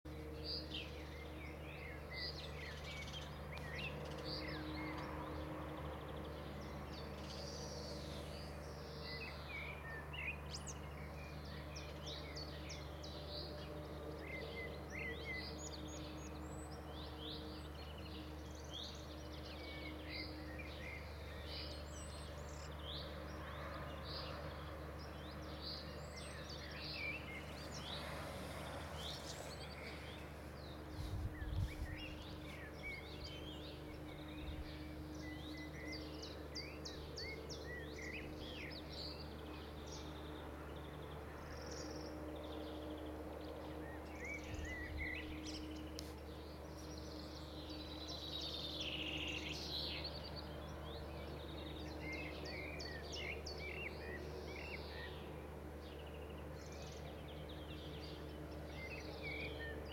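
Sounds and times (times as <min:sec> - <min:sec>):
songbirds chirping: 0:00.1 - 0:59.9
steady low hum: 0:00.1 - 0:59.9.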